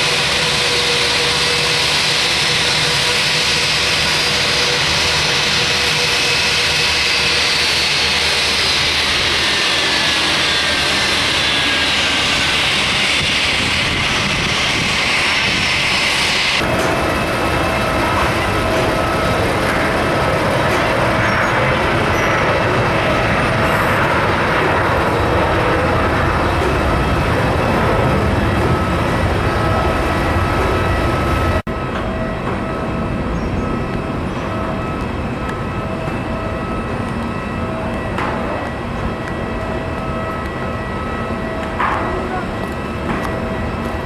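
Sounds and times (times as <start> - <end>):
jet engine rush: 0.0 - 44.0
thin jet whine: 0.0 - 44.0.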